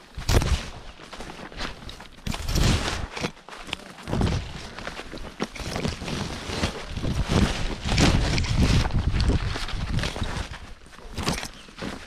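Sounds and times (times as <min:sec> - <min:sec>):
footsteps on woodland trail: 0:00.0 - 0:12.0
rustling: 0:00.0 - 0:12.0.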